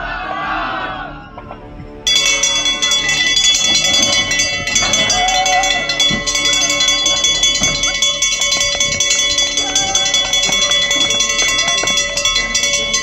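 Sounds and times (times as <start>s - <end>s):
metallic bell ringing rapidly: 2.1s - 13.0s.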